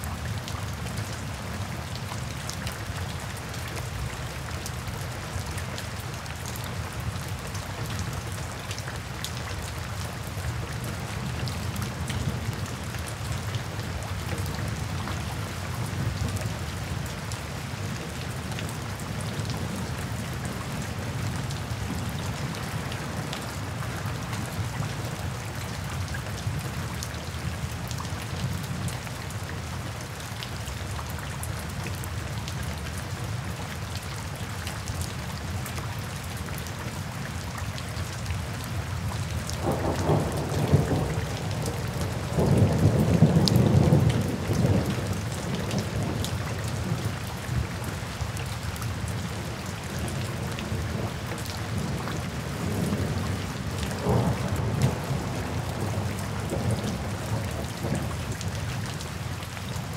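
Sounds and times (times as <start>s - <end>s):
rain pattering on pavement: 0.0s - 59.9s.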